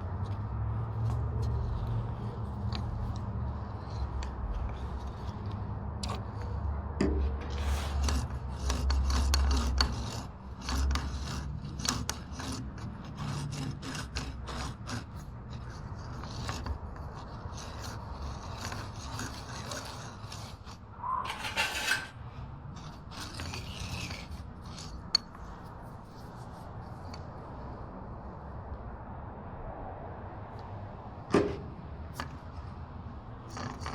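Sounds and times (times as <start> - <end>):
hand scraping and rubbing: 0.1 - 27.7.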